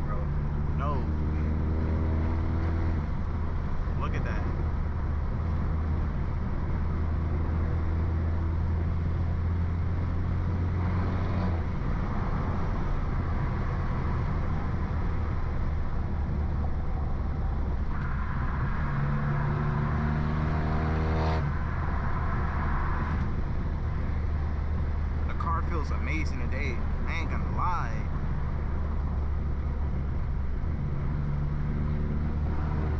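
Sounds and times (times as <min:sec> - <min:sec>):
car engine accelerating: 0:00.0 - 0:27.4, 0:28.1 - 0:32.9.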